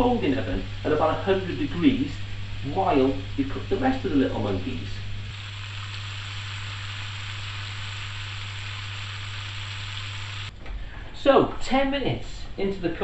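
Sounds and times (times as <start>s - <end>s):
chicken deep-frying in oil: 0.0s - 10.5s
low hum: 0.0s - 11.0s.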